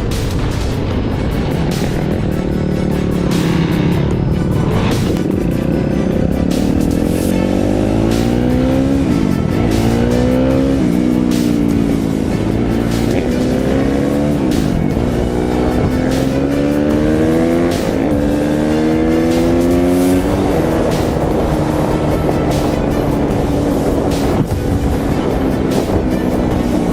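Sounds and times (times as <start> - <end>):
music: 0.0 - 26.9
off-road vehicle engine accelerating: 0.0 - 26.9.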